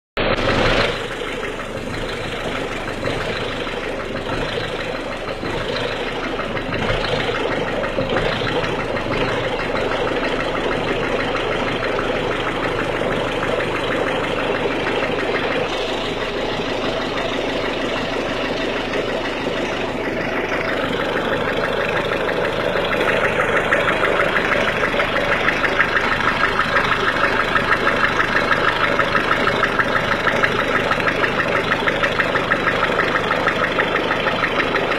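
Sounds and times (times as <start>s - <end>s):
diesel engine idling with knock: 0.2s - 34.9s.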